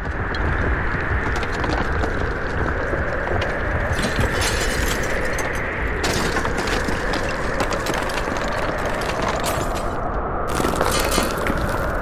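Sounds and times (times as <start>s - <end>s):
rock breaking crackle and clatter: 0.0s - 12.0s.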